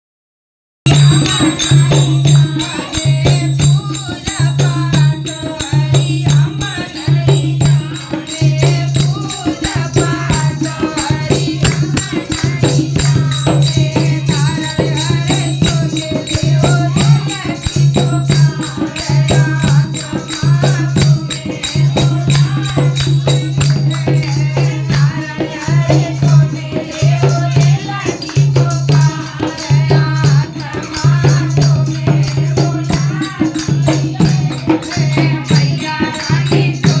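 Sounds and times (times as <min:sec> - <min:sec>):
rattling shaker percussion: 0:00.9 - 0:37.0.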